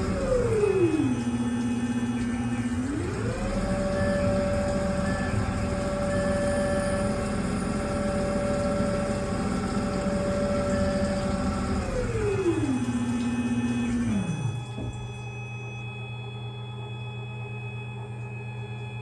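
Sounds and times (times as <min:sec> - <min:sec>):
mechanical running noise: 0:00.0 - 0:16.1
lathe spindle motor whine: 0:00.0 - 0:19.0.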